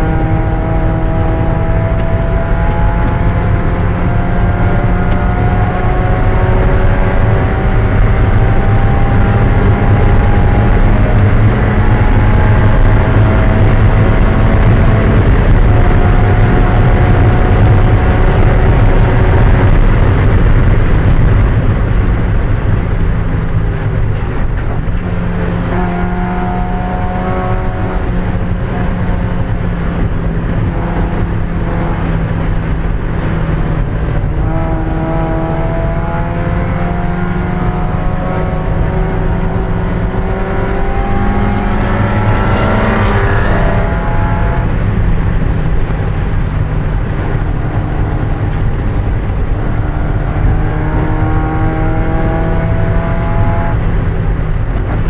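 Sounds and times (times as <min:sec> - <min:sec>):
car engine revving and shifting: 0:00.0 - 0:55.0.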